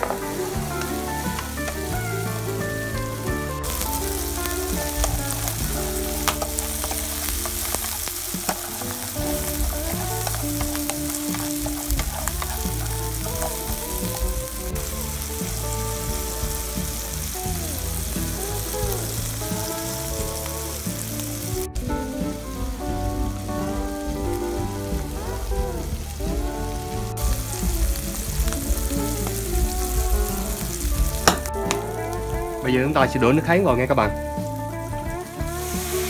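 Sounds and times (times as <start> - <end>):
clams sizzling in hot oil: 0.0 - 32.7, 34.3 - 36.0.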